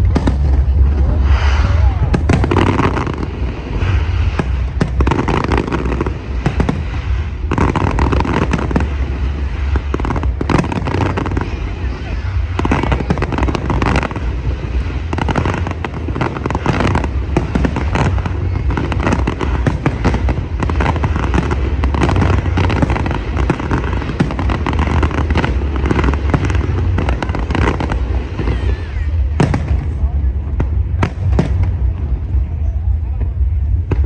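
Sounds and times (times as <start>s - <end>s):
fireworks bangs and crackles: 0.0s - 34.0s
low rumble: 0.0s - 34.0s.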